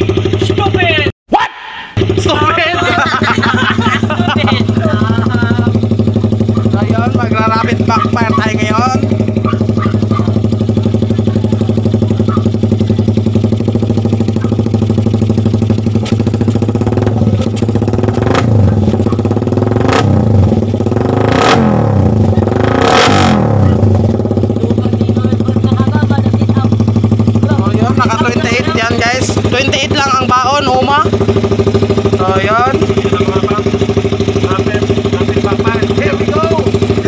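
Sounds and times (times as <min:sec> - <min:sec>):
motorcycle engine idling and revving: 0:00.0 - 0:01.2, 0:01.9 - 0:37.0
exhaust cracks: 0:02.0 - 0:37.0.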